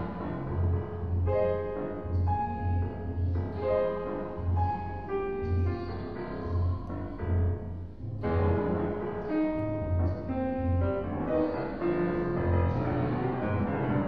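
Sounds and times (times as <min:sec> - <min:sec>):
grand piano playing: 0:00.0 - 0:14.0
low beat: 0:00.0 - 0:14.0
pre-recorded soundtrack: 0:00.0 - 0:14.0.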